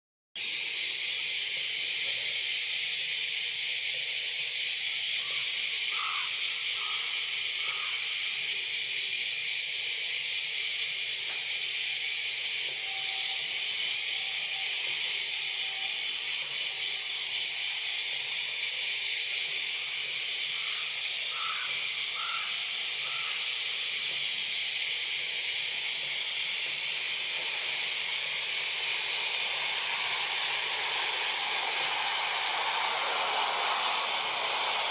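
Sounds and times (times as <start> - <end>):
high-pitched hiss: 0.4 - 34.9.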